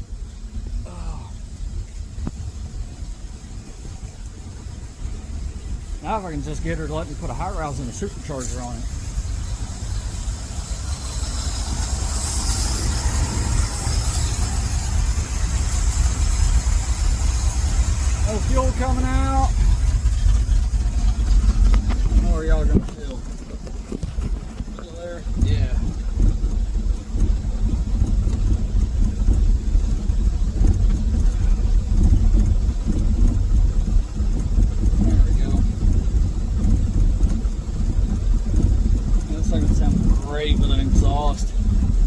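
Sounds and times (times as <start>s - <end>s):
truck engine rumbling: 0.0s - 42.0s.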